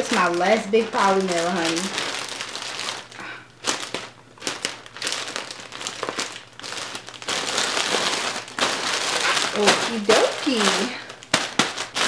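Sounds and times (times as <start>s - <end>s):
plastic mailer crinkling: 0.0s - 12.0s.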